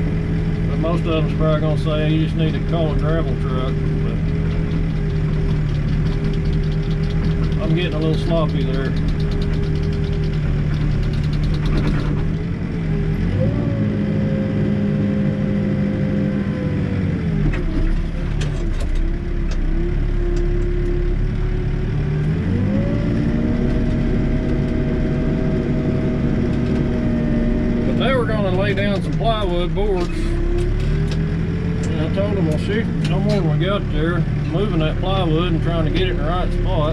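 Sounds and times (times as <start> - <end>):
backhoe diesel engine revving: 0.0 - 36.9.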